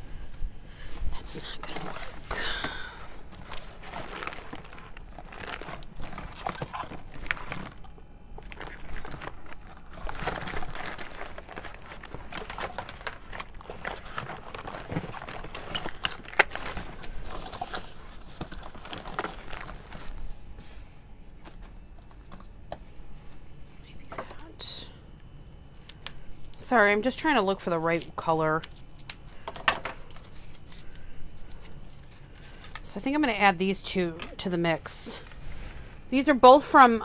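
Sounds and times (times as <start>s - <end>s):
rustling and crinkling supplies: 0.1s - 37.0s.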